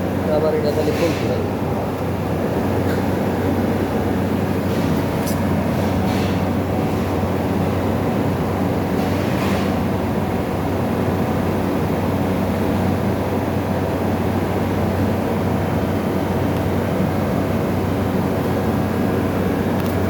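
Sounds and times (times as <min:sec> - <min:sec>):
refrigerator compressor humming: 0:00.0 - 0:20.0.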